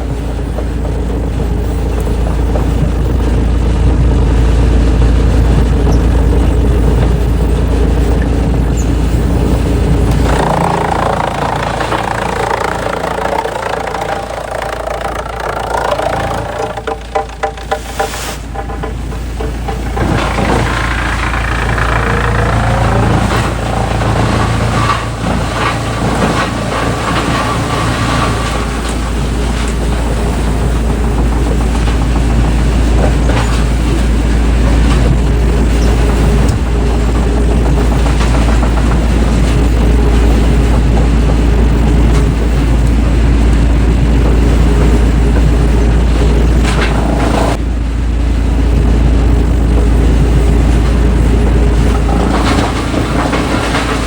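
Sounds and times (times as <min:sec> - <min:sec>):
wood shredder grinding: 0:00.0 - 0:54.0.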